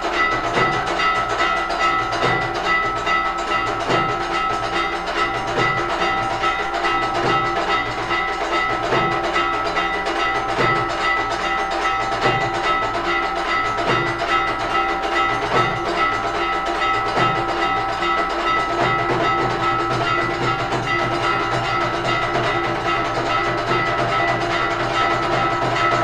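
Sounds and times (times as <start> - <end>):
steady drum beat: 0.0 - 26.0
temple bells ringing: 0.0 - 26.0.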